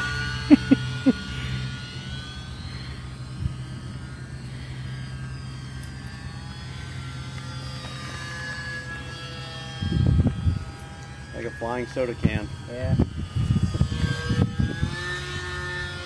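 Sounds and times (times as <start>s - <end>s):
model airplane motor whining: 0.0s - 16.0s
steady low hum: 0.0s - 16.0s.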